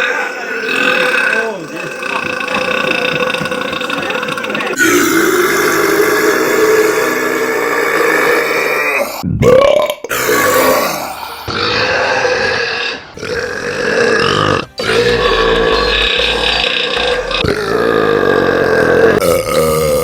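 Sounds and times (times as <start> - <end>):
person burping loudly: 0.0 - 20.0.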